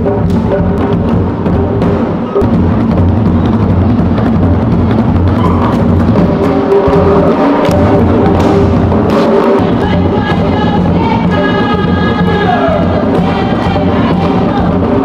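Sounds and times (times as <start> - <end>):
tall drums struck by hand: 0.0 - 15.0.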